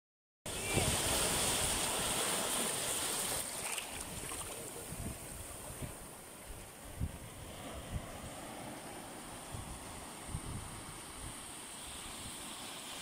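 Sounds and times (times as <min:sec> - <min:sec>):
surf washing over rocks: 0:00.5 - 0:13.0.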